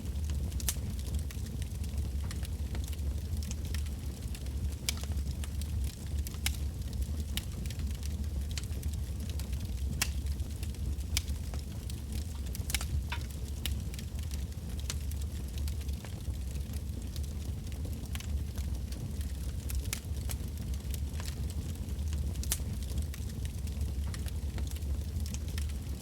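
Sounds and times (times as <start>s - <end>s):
low rumble of flame: 0.0s - 26.0s
campfire crackling and popping: 0.1s - 26.0s.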